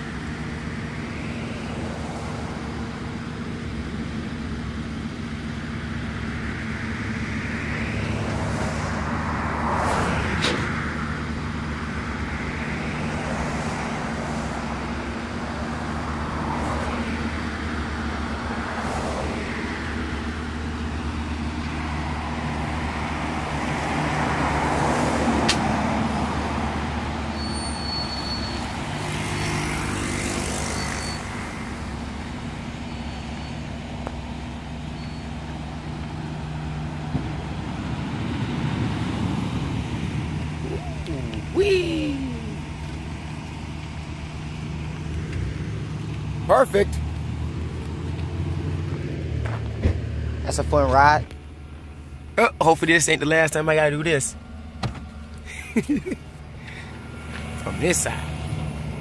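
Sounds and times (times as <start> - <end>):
car road and engine hum: 0.0 - 59.0
vehicles swishing past: 0.0 - 59.0.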